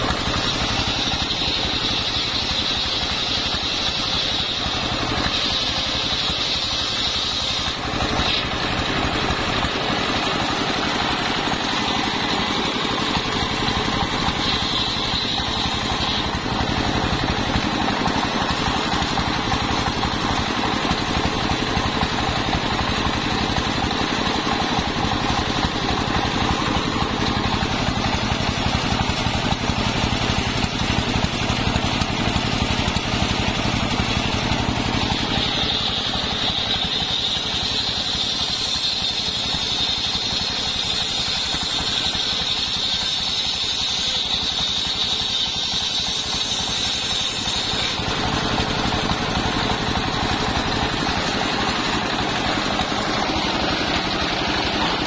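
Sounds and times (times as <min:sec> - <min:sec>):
circular saw ripping wood: 0:00.0 - 0:55.0
diesel engine running: 0:00.0 - 0:55.0
high steady whine: 0:00.0 - 0:55.0.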